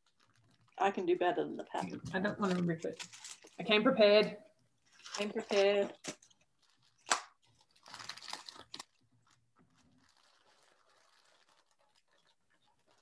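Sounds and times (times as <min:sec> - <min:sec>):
paper crackling: 0:00.0 - 0:04.2, 0:04.8 - 0:13.0
faint paper rustling: 0:00.0 - 0:13.0.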